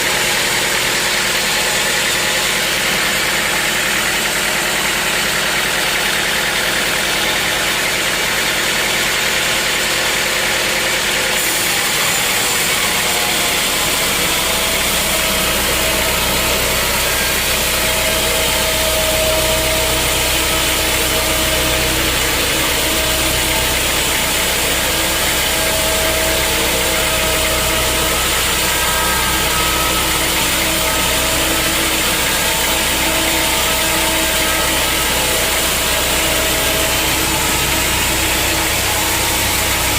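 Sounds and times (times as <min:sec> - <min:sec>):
deep engine hum: 0:00.0 - 0:39.9
sawmill machinery running: 0:00.0 - 0:39.9.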